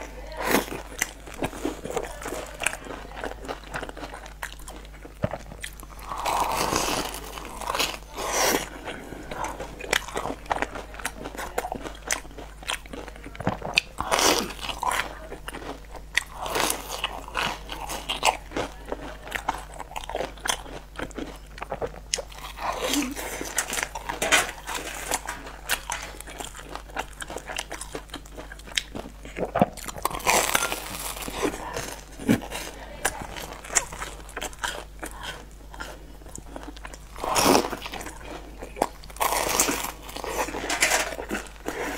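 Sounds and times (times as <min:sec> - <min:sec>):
crunchy biting and chewing: 0:00.0 - 0:41.9.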